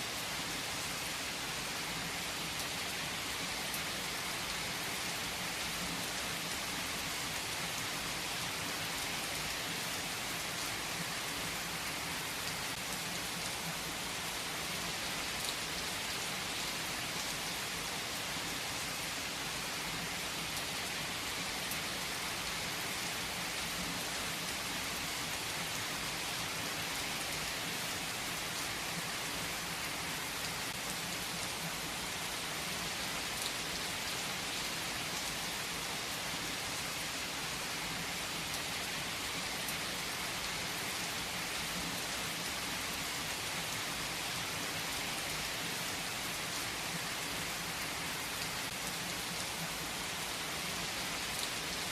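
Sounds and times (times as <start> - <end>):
steady rain on surface: 0.0 - 51.9.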